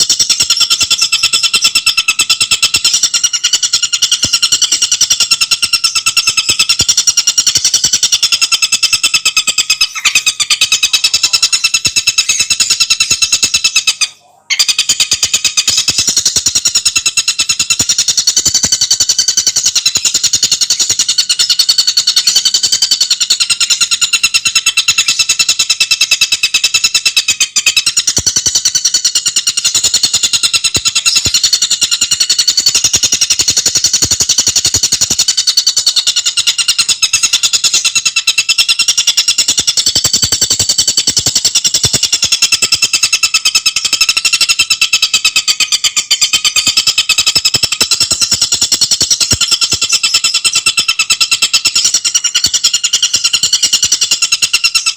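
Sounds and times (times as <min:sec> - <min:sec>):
songbird chattering trill: 0:00.0 - 0:54.9.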